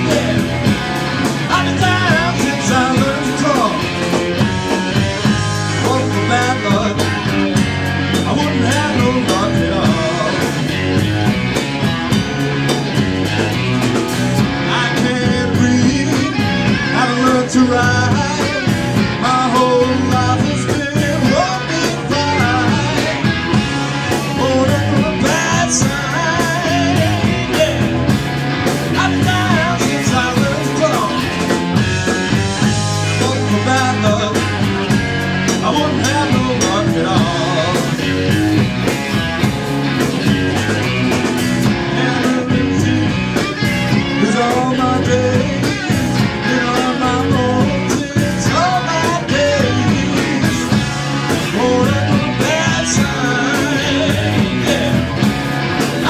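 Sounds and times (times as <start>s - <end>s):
bending electric guitar lines: 0.0s - 56.0s
live blues-rock band playing: 0.0s - 56.0s.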